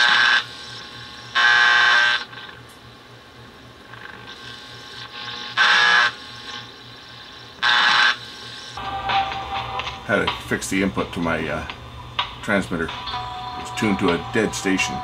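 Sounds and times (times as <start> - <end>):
radio speaker buzzing static: 0.0 - 2.6, 3.9 - 15.0.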